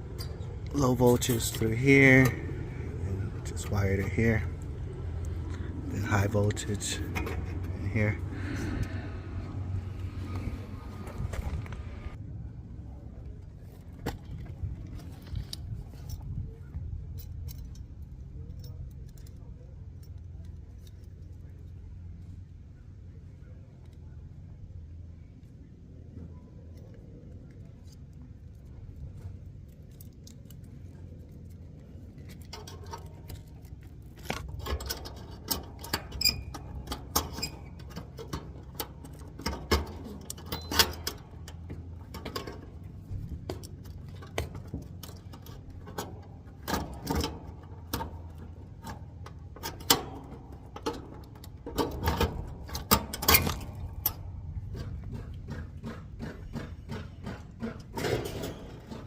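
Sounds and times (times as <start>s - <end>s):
hand tools and metal parts clinking: 0.0s - 11.7s, 14.2s - 21.8s, 27.7s - 59.0s
steady low hum: 0.0s - 59.0s.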